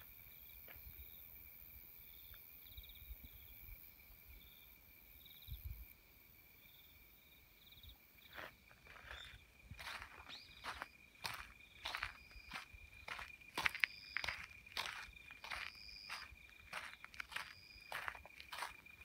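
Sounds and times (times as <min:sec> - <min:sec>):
insects chirping in pulses: 0:00.0 - 0:19.0.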